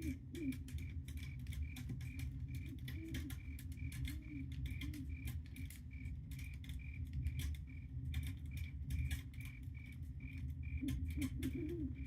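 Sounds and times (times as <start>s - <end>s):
crackling clicks: 0.0s - 12.0s
steady chirping: 0.0s - 12.0s.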